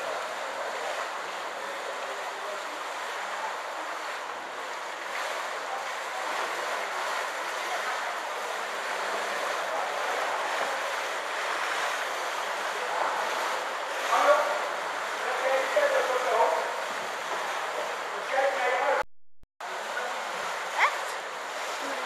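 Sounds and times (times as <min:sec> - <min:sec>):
pool water splashing: 0:00.0 - 0:19.0, 0:19.6 - 0:22.0.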